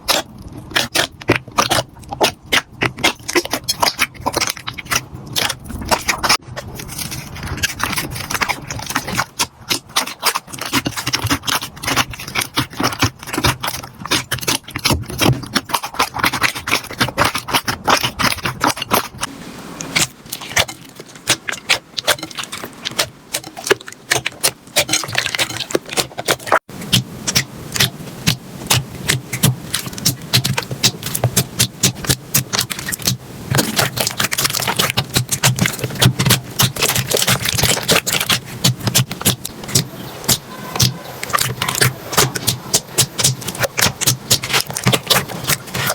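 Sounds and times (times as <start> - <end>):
slime squeezed crackling pops: 0.0 - 19.3, 19.9 - 45.9.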